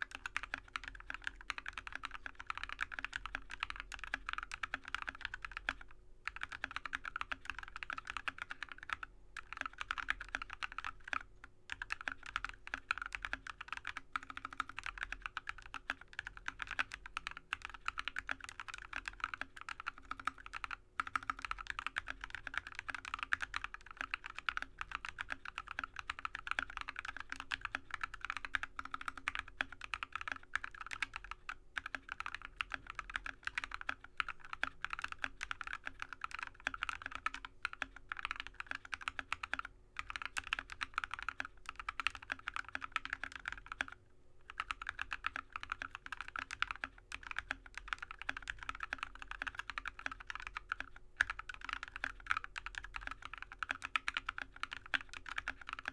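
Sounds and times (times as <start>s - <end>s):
mechanical keyboard typing: 0.0s - 55.9s.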